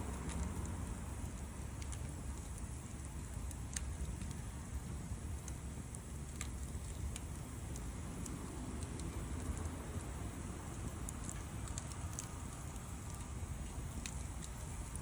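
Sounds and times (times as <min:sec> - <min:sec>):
bonfire rumbling: 0:00.0 - 0:15.0
fire crackles: 0:00.0 - 0:15.0.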